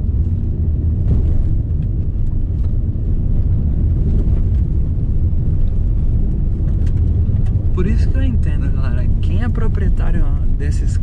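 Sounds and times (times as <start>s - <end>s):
car cabin rumble of tyres and engine: 0.0s - 11.0s.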